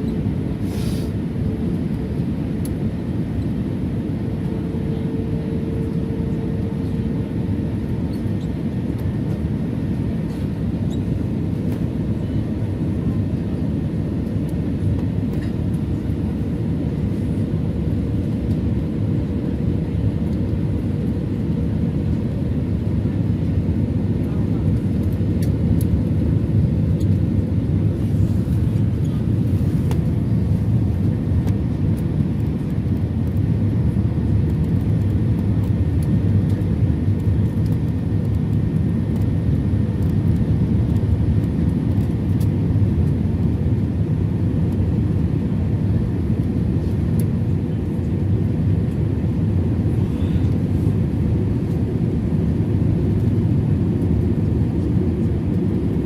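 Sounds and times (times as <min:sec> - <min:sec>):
jet cabin engine rumble: 0:00.0 - 0:56.0.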